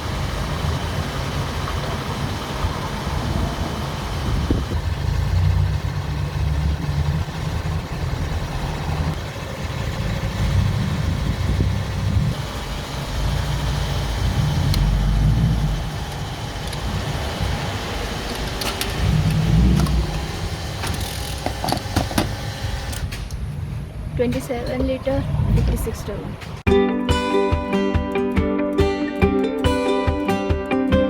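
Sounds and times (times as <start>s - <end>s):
car engine rumbling: 0.0s - 26.7s.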